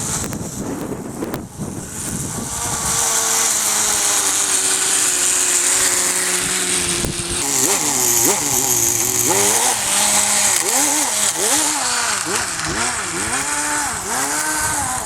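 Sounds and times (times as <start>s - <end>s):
small nitro engine buzzing: 0.0s - 15.0s.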